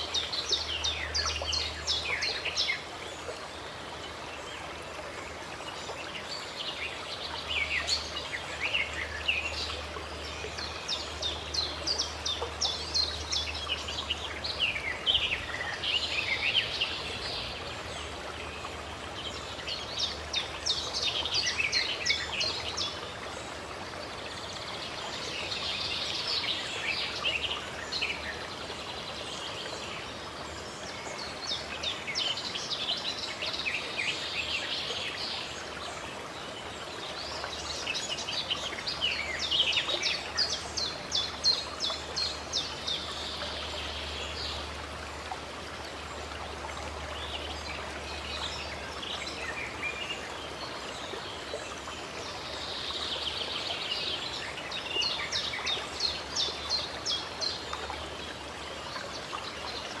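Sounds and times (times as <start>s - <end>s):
running water: 0.0s - 60.0s
songbirds chirping: 0.0s - 60.0s.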